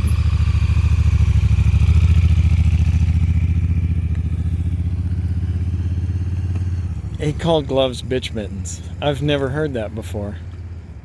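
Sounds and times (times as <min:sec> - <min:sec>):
motorcycle engine throbbing: 0:00.0 - 0:11.0.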